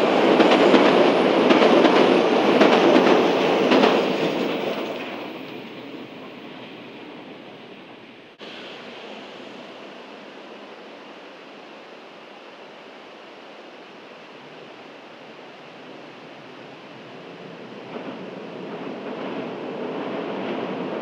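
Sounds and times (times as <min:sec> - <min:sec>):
distant electric train approaching: 0:00.0 - 0:21.0.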